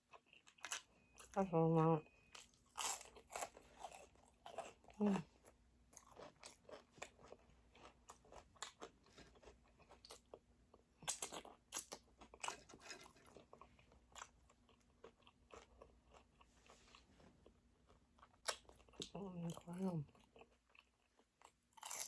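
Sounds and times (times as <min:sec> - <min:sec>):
crunchy chewing: 0:02.3 - 0:10.4, 0:11.0 - 0:22.0.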